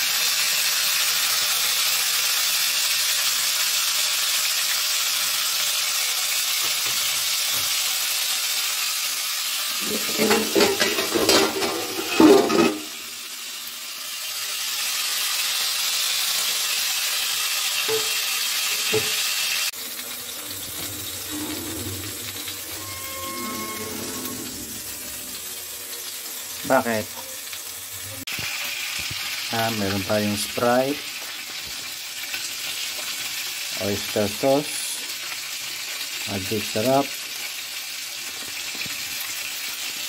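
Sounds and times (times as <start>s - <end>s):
chicken sizzling in oil: 0.0s - 40.0s.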